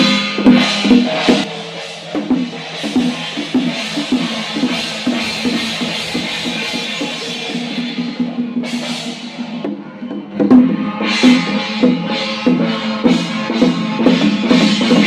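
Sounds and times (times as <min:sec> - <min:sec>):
cymbal crashes: 0:00.0 - 0:09.6, 0:10.5 - 0:15.0
drum beats: 0:00.0 - 0:15.0.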